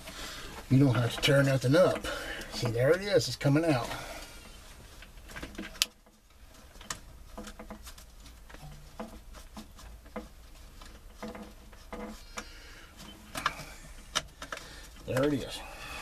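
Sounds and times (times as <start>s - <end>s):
rustling of hands and wiring: 0.0s - 16.0s.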